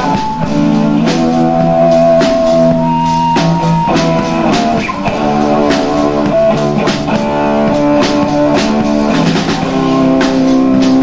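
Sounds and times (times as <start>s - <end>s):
drum hits: 0.0s - 11.0s
electric bass: 0.0s - 11.0s
electric guitar: 0.0s - 11.0s.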